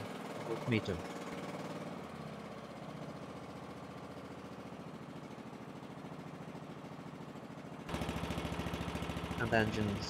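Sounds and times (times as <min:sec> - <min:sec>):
lawn tractor engine running: 0:00.0 - 0:10.0.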